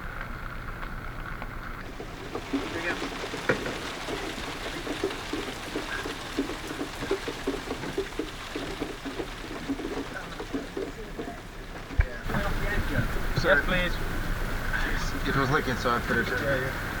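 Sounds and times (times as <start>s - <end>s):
heavy rain on a boat: 0.0s - 17.0s.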